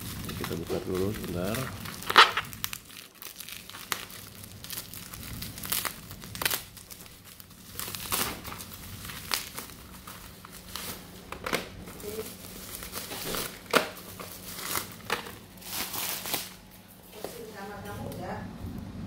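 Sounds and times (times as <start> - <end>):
bubble wrap crackles: 0.0 - 17.8
bubble wrap crinkling: 0.0 - 18.0.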